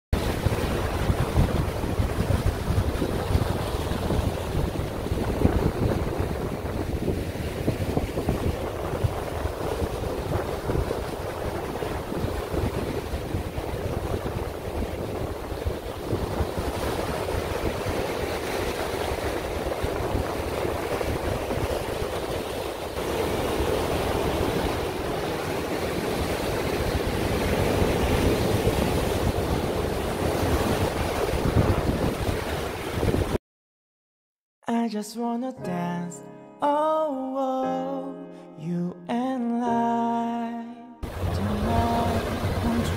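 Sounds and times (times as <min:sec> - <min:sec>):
waves breaking over rocks: 0:00.2 - 0:33.4, 0:41.0 - 0:42.9
wind buffeting microphone: 0:00.2 - 0:33.4, 0:41.0 - 0:42.9.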